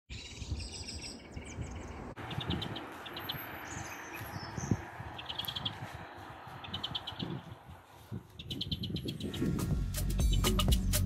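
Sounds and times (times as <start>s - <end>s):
small birds chirping: 0.1s - 9.6s.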